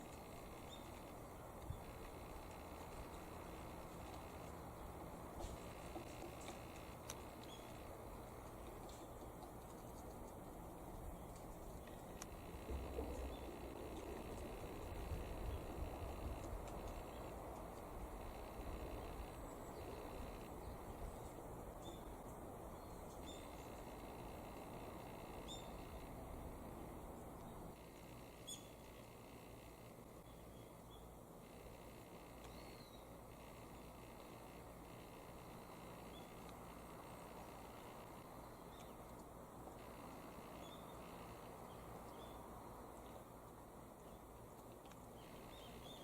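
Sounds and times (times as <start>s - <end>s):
faint bird chirps: 0.0s - 4.9s, 5.6s - 7.9s, 11.1s - 17.5s, 18.1s - 26.2s, 27.2s - 39.1s, 39.8s - 43.2s, 45.2s - 46.0s
low background hiss: 0.0s - 46.0s
low rushing background noise: 0.0s - 46.0s.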